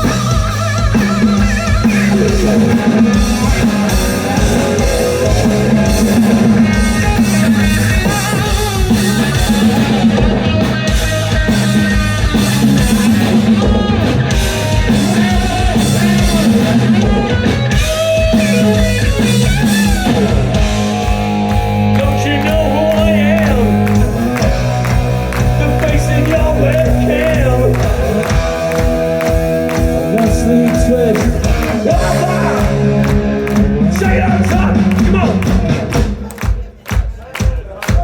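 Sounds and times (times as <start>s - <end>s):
electric guitar: 0.0s - 36.5s
drum kit: 0.0s - 38.0s.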